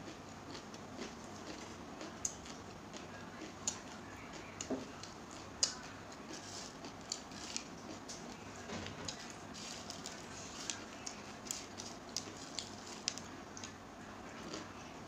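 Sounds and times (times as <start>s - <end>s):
chewing and mouth noises: 0.0s - 14.9s.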